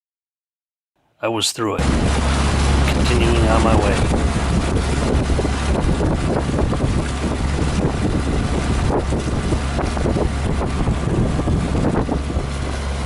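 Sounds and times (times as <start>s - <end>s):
steady low drone: 1.8s - 13.0s
wind buffeting microphone: 1.8s - 13.0s.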